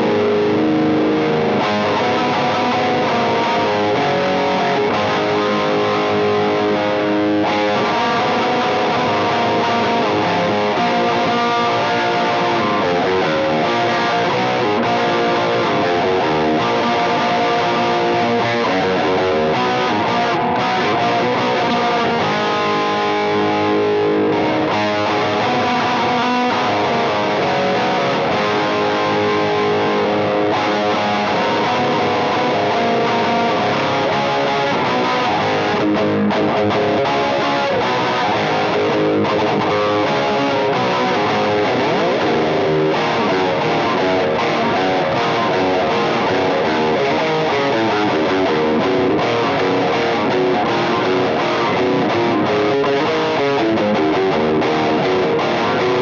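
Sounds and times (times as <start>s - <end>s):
distorted electric guitar riffs: 0.0s - 56.0s.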